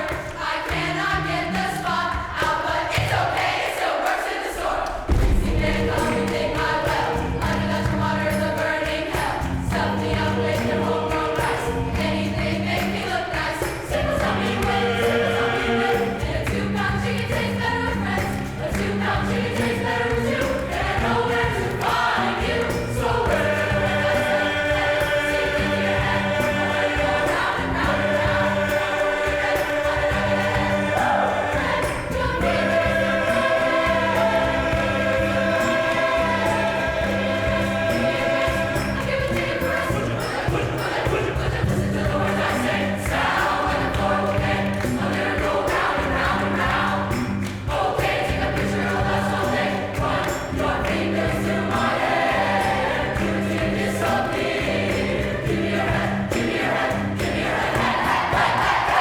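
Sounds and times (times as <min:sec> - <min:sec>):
choir singing in parts: 0:00.0 - 0:59.0.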